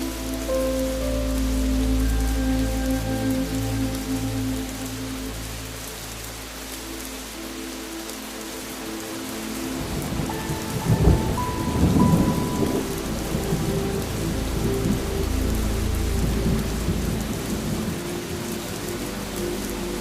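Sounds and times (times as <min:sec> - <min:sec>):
faint sustained music tones: 0:00.0 - 0:20.0
steady rain: 0:00.0 - 0:20.0.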